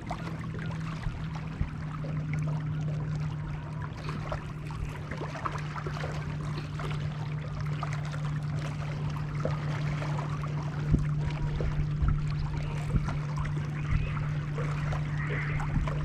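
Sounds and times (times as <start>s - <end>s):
small splashes and crackles: 0.0s - 16.0s
steady low hum: 0.0s - 16.0s
water lapping against bank: 0.0s - 16.0s.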